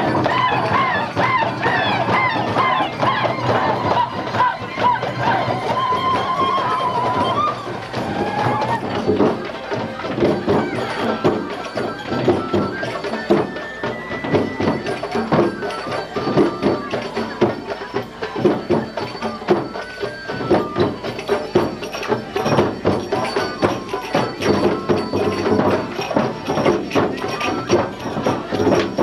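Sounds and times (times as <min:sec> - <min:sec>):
fast dense percussion: 0:00.0 - 0:29.0.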